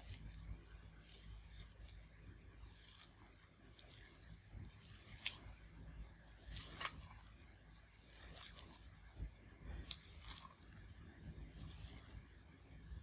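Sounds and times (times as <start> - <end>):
spatula squelching in batter: 0.0 - 12.6.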